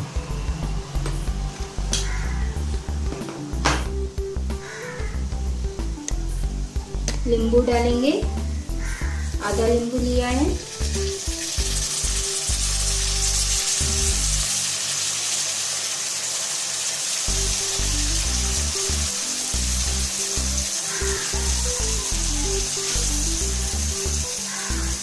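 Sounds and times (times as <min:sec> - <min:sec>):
background music: 0:00.0 - 0:15.4, 0:17.2 - 0:25.0
potatoes sizzling in oil: 0:00.0 - 0:25.0.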